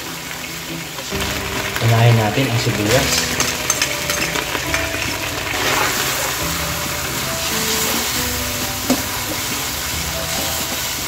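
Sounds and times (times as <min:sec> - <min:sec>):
background music with simple melody: 0:00.0 - 0:11.0
onion sizzling in a wok: 0:00.0 - 0:11.0
metal spatula stirring: 0:01.2 - 0:11.0.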